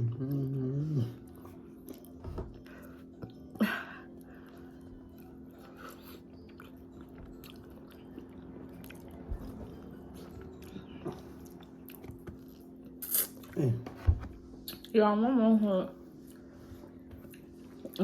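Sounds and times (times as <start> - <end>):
people chewing and biting: 0.0 - 14.0, 16.2 - 18.0
steady low hum: 0.0 - 18.0.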